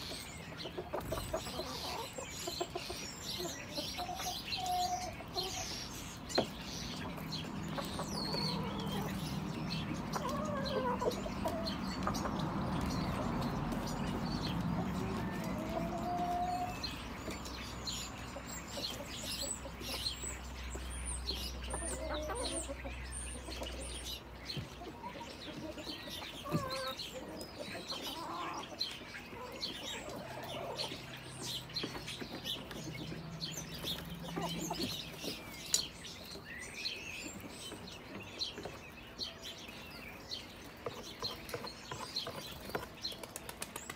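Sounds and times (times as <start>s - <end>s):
chickens clucking softly: 0.0s - 36.4s
small birds chirping: 0.0s - 43.9s.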